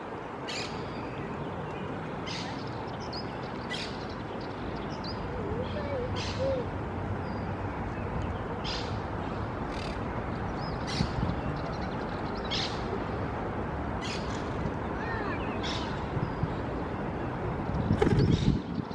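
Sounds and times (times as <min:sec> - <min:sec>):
steady background noise: 0:00.0 - 0:18.9.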